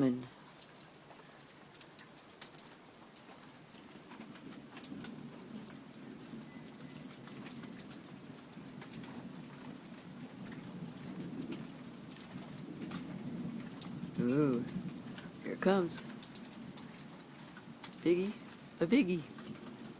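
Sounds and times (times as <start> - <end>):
raindrops ticking on a surface: 0.0 - 19.9
steady rain falling: 0.0 - 19.9.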